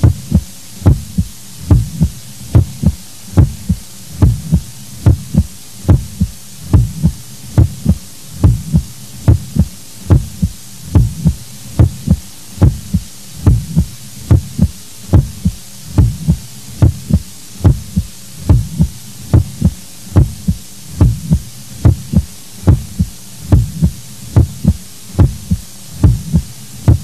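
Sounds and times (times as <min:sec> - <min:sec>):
heartbeat thumps: 0:00.0 - 0:27.0.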